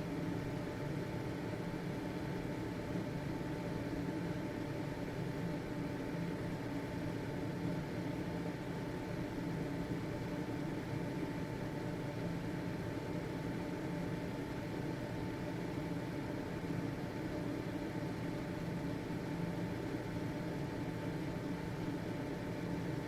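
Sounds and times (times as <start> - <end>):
ventilation fan humming: 0.0 - 23.0.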